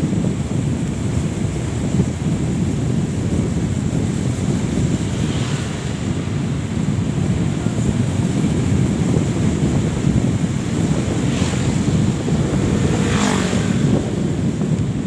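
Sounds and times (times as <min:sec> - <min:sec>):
vehicle road noise: 0:00.0 - 0:15.0
wind buffeting microphone: 0:00.0 - 0:15.0
oncoming vehicles passing: 0:01.6 - 0:15.0.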